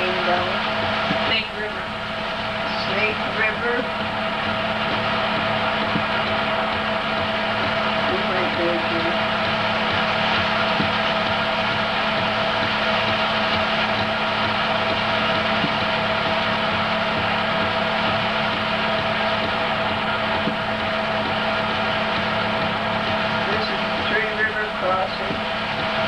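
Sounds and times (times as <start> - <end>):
electrical hum: 0.0 - 26.0
film projector whirring: 0.0 - 26.0.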